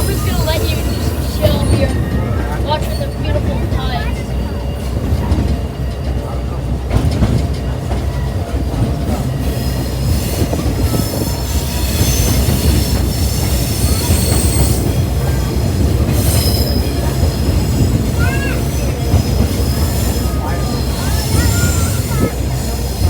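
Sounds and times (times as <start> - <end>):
high wheel squeal: 0.0 - 5.0, 9.1 - 23.0
train wheels rumbling on track: 0.0 - 23.0.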